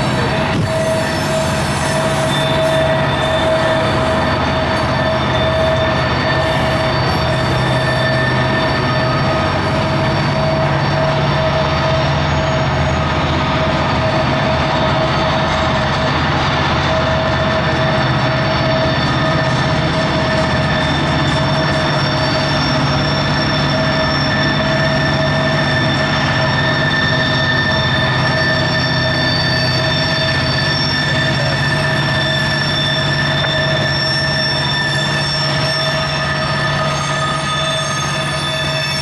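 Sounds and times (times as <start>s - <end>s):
diesel locomotives: 0.0s - 39.0s
freight cars rumbling: 0.0s - 39.0s
train wheels squealing against rail: 0.0s - 39.0s.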